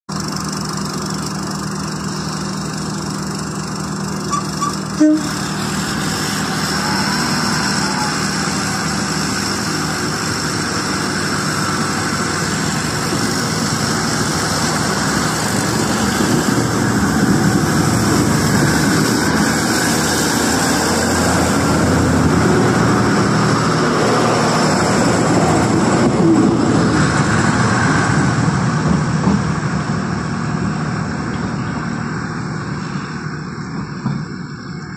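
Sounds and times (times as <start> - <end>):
diesel train passing: 0.1 - 34.9.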